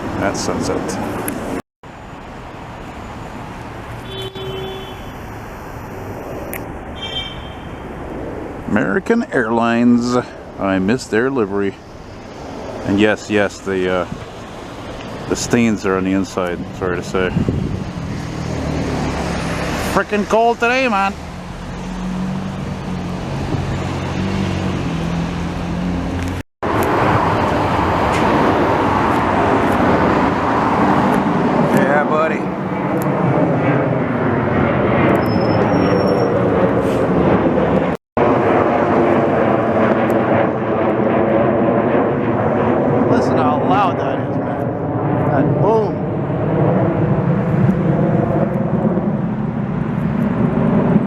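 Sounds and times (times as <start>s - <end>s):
highway traffic: 0.0s - 51.0s.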